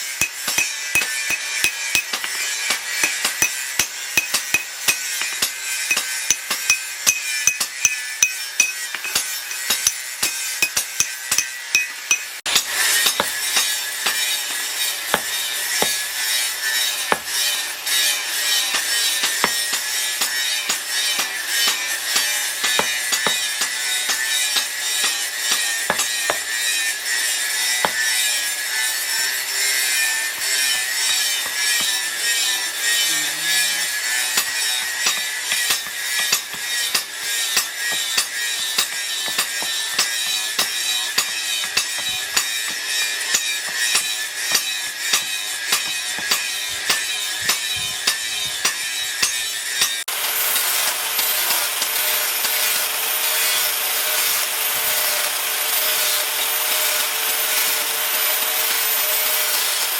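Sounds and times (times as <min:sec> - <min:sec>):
steel rasping scrape: 0:00.0 - 0:59.9.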